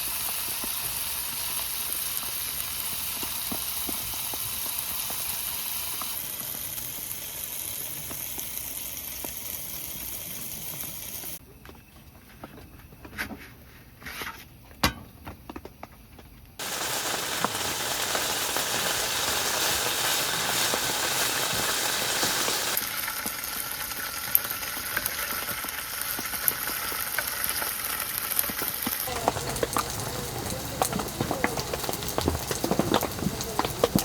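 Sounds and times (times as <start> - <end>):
food sizzling in a pan: 0.0 - 11.4, 16.6 - 34.0.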